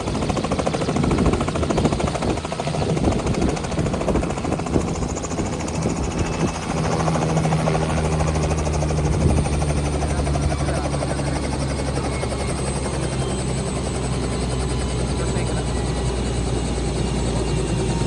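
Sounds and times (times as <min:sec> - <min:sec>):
helicopter engine: 0:00.0 - 0:18.0
helicopter rotor chop: 0:00.0 - 0:18.0.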